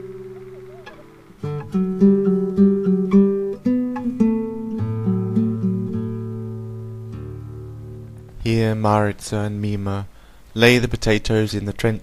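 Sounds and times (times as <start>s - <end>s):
acoustic guitar music: 0.0s - 9.7s.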